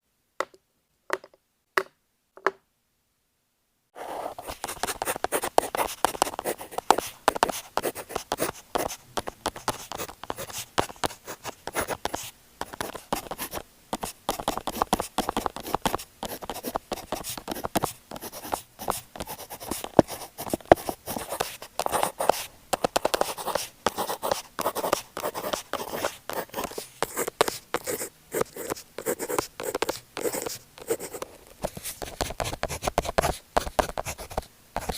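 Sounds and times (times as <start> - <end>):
pen scratching on paper: 4.0 - 34.9.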